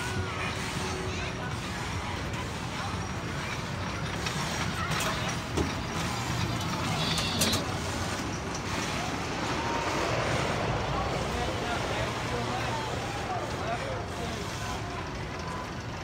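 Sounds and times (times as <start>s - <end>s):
small engine rumbling: 0.0s - 16.0s.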